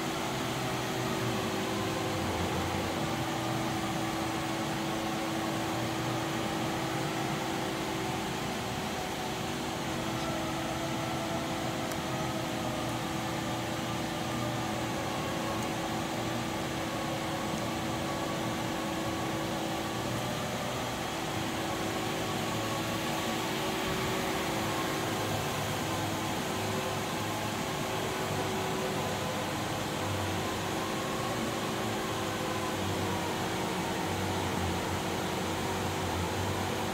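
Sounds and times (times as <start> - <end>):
machinery fan hum: 0.0 - 36.9.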